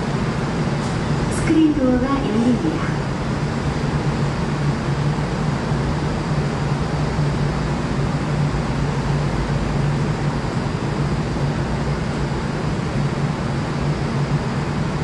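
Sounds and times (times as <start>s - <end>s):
steady low hum: 0.0s - 15.0s
subway train rumbling: 0.0s - 15.0s.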